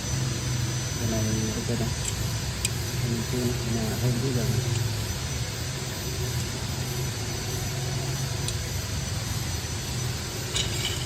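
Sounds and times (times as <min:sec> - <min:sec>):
continuous hiss: 0:00.0 - 0:11.0
drilling machine motors humming: 0:00.0 - 0:11.0.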